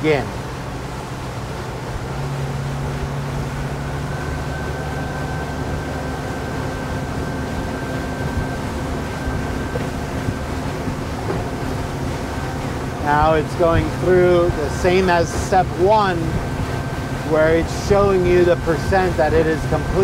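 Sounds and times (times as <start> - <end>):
outboard engines running: 0.0 - 20.0
wind and water rush: 0.0 - 20.0
thin high whine: 2.1 - 20.0.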